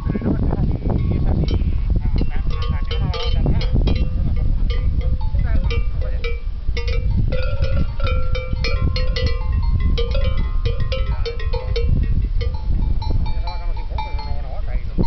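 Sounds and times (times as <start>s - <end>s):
wind rumble on microphone: 0.0s - 15.0s
cowbells clanking: 1.0s - 15.0s.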